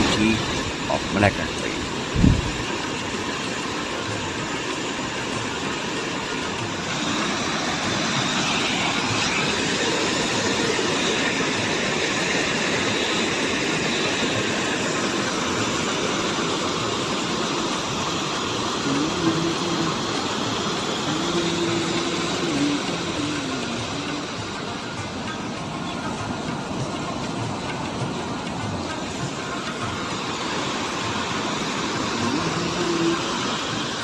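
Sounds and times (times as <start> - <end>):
flowing water rushing: 0.0 - 34.0.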